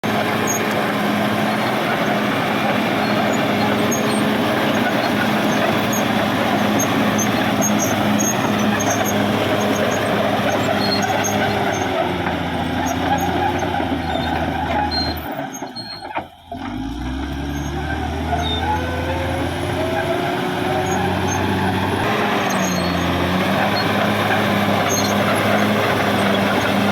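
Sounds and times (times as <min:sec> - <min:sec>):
bulldozer diesel engine: 0:00.0 - 0:26.9.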